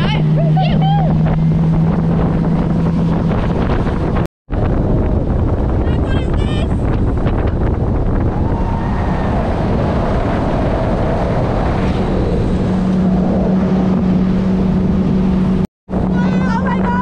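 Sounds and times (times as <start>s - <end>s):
outboard motor running: 0.0s - 8.5s, 10.8s - 17.0s
wind rumbling on microphone: 0.0s - 17.0s.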